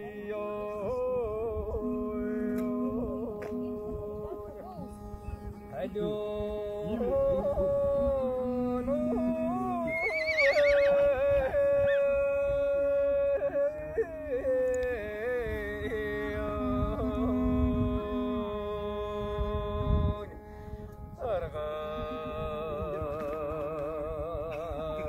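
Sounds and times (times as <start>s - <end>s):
low steady drone: 0.0s - 10.3s, 10.9s - 25.0s
slow melody of sliding notes: 0.0s - 24.5s.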